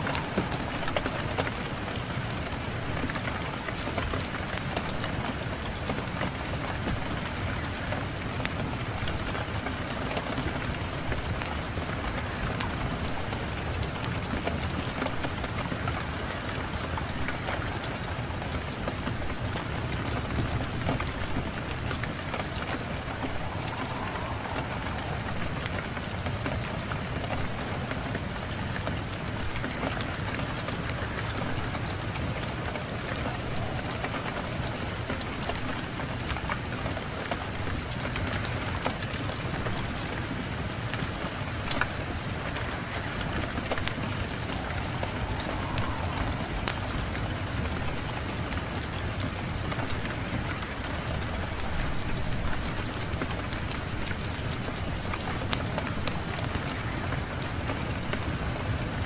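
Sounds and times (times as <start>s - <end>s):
fire crackling and popping: 0.0s - 58.8s
low rumble of wind: 0.0s - 59.0s.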